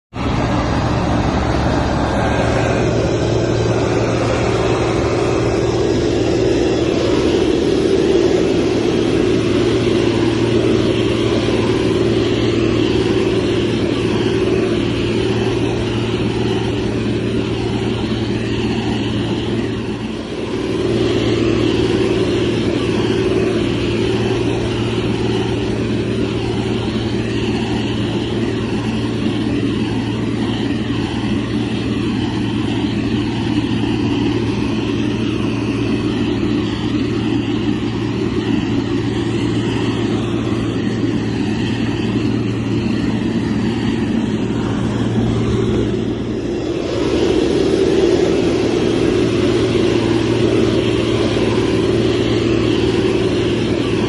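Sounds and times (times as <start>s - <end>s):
diesel engine running under load: 0.1s - 54.0s.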